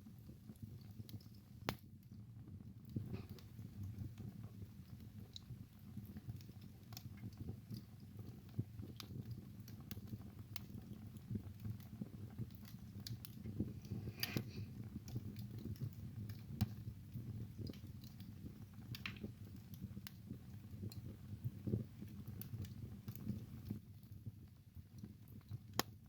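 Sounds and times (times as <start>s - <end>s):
low rumble of flame: 0.0s - 26.0s
wood fire crackling and popping: 0.0s - 26.0s.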